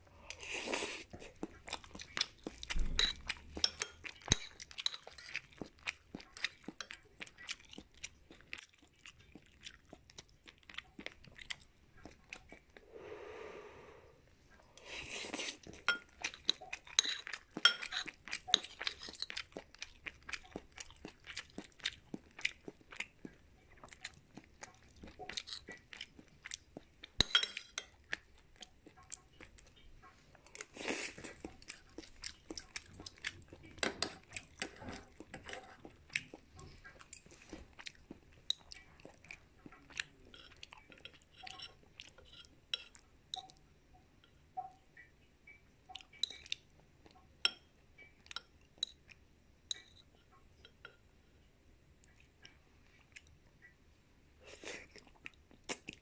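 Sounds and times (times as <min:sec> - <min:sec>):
chewing and crunching food: 0:00.0 - 0:12.9, 0:14.4 - 0:51.1, 0:51.9 - 0:56.0.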